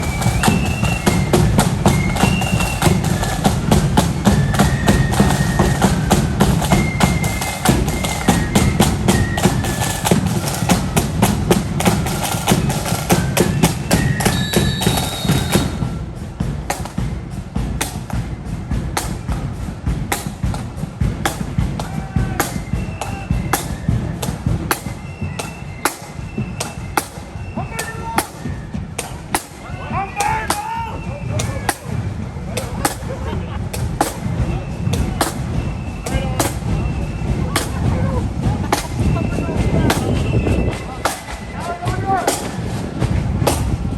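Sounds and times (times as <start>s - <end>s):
marching drums: 0.0s - 43.9s
shrill flute melody: 0.0s - 43.9s.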